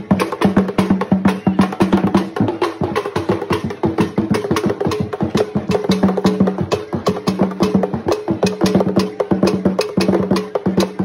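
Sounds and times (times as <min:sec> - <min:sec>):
pitched drum tone: 0:00.0 - 0:11.0
sharp clicking percussion strikes: 0:00.0 - 0:11.0.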